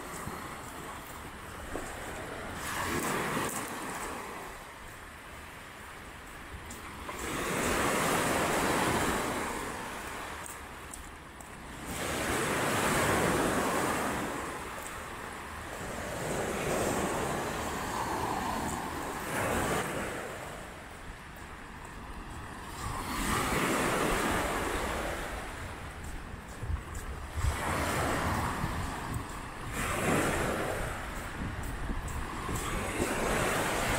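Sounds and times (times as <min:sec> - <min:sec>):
waves breaking on shore: 0:00.0 - 0:33.9.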